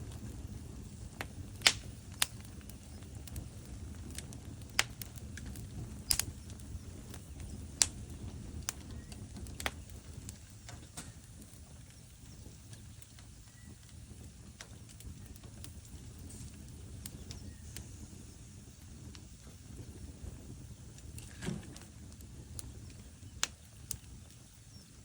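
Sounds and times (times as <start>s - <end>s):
fire crackling and popping: 0.0s - 25.0s
low steady rumble: 0.0s - 25.0s.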